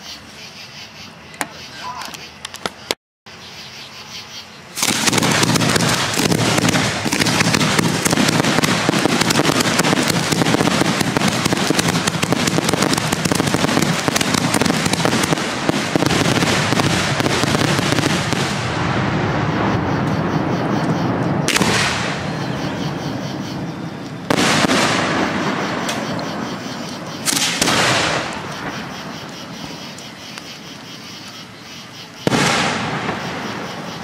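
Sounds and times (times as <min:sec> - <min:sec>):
fireworks bursting and crackling: 0:04.7 - 0:31.0, 0:32.0 - 0:34.0.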